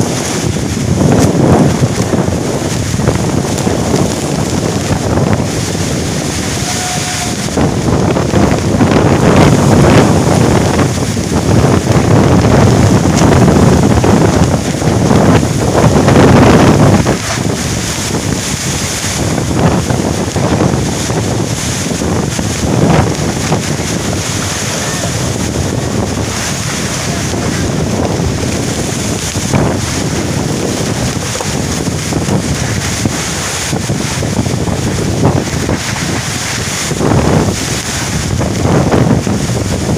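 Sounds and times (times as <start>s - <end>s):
heavy rain: 0.0s - 39.9s
storm wind gusting: 0.0s - 39.9s
wind buffeting microphone: 0.0s - 39.9s.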